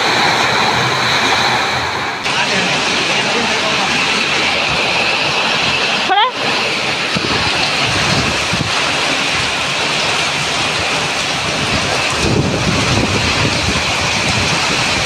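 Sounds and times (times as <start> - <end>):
heavy rain on concrete and foliage: 0.0 - 15.0
wind buffeting microphone: 0.0 - 15.0.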